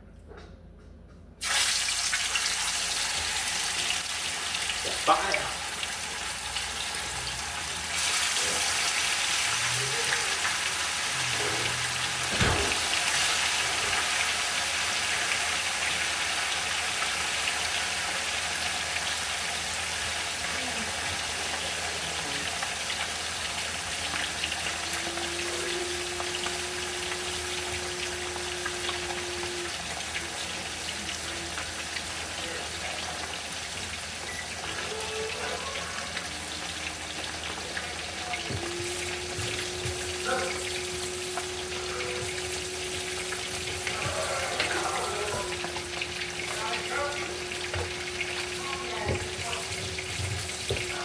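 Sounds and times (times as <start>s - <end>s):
food sizzling in hot oil: 1.4s - 51.0s.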